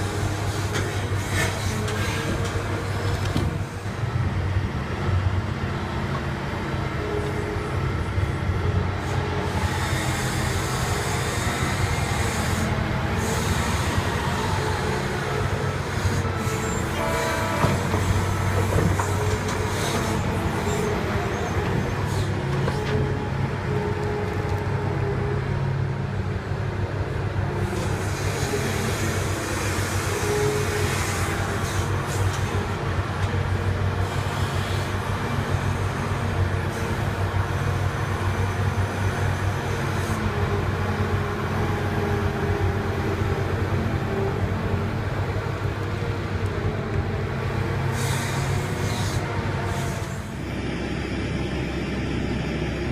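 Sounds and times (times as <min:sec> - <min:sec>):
diesel engine drone: 0:00.0 - 0:52.9.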